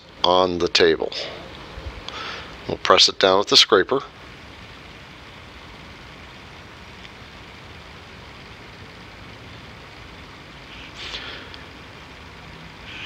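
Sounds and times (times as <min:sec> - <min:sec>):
shop background hiss: 0:00.0 - 0:13.0.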